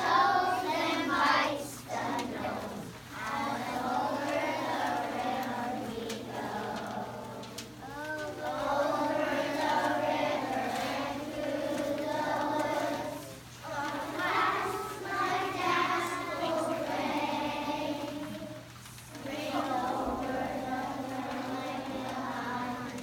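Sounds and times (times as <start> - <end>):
children singing in unison: 0.0 - 23.0.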